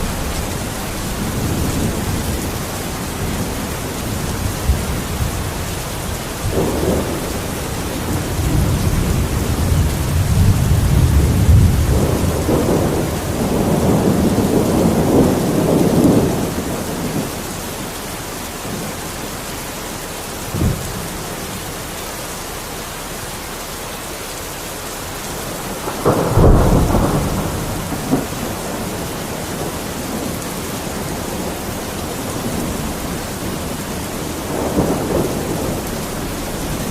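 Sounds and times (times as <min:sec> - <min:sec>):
thunderclap: 0:00.0 - 0:17.4, 0:20.5 - 0:21.6, 0:25.4 - 0:36.9
rolling thunder: 0:00.0 - 0:17.9, 0:20.4 - 0:21.9, 0:25.0 - 0:36.9
steady rain: 0:00.0 - 0:36.9.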